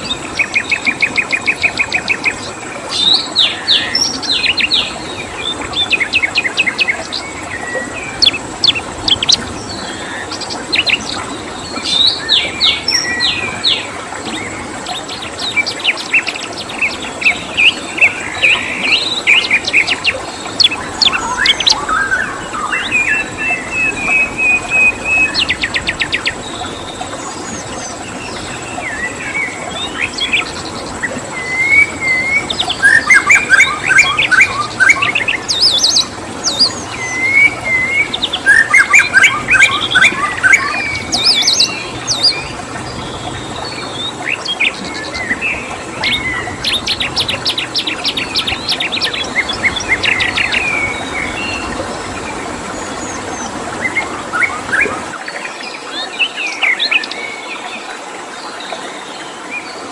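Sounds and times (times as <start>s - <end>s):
songbirds chirping and trilling: 0.0s - 59.9s
stream water flowing: 0.0s - 59.9s.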